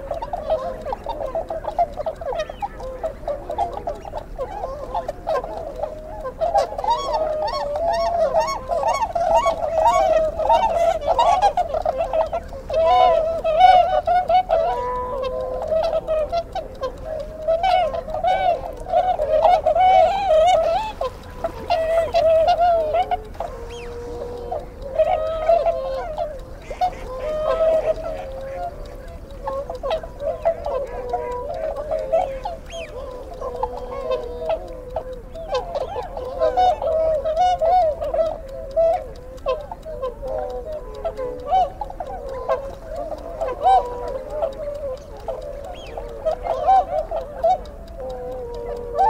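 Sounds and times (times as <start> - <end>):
birds chattering: 0.0 - 49.0.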